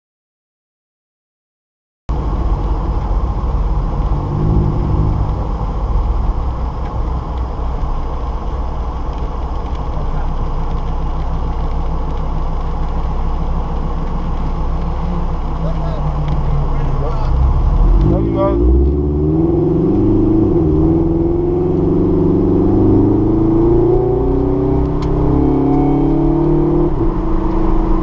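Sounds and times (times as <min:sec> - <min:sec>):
car engine low rumble: 0:02.1 - 0:28.0.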